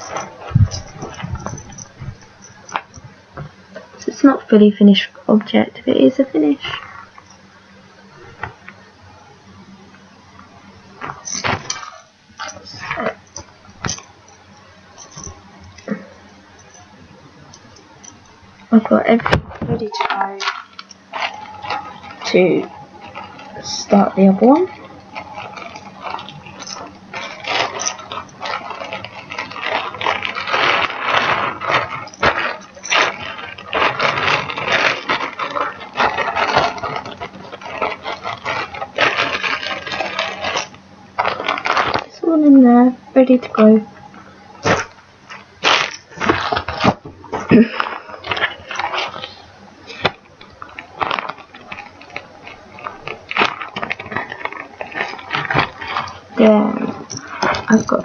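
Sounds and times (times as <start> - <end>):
fabric rustling and handling: 0.0 - 4.3, 10.0 - 42.5, 43.3 - 58.0
plastic packaging crinkling: 0.0 - 7.5, 10.0 - 58.0.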